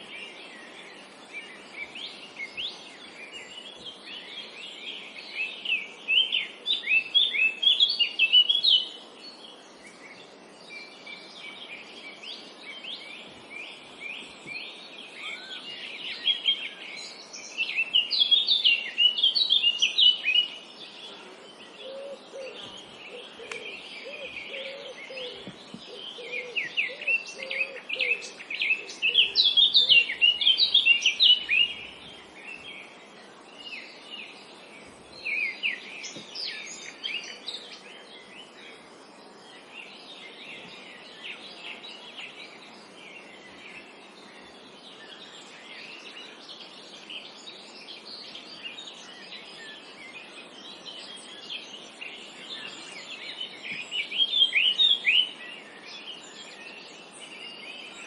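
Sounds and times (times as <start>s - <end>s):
low bird chirping call: 0.0s - 58.0s
soft background hiss: 0.0s - 58.0s
songbirds singing: 0.0s - 58.0s.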